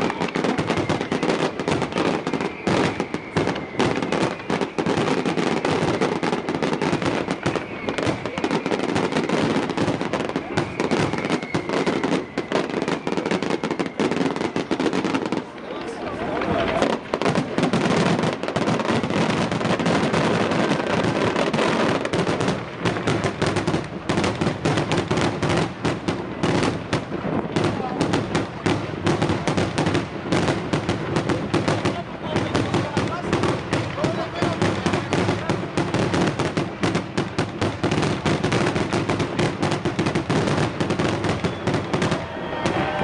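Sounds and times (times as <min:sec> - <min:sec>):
fireworks and firecrackers banging: 0:00.0 - 0:43.0.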